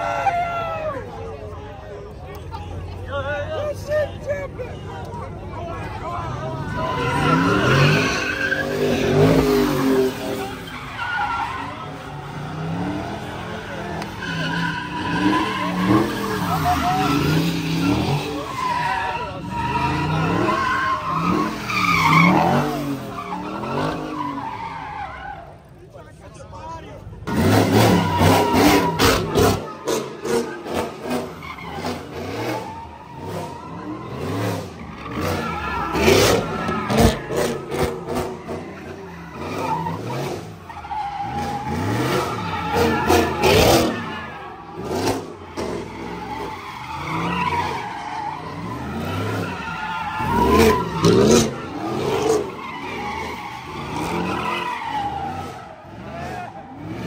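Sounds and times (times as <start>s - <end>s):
car engine revving: 5.6s - 25.7s, 27.2s - 57.0s
tyres squealing: 5.8s - 25.8s, 27.2s - 57.0s.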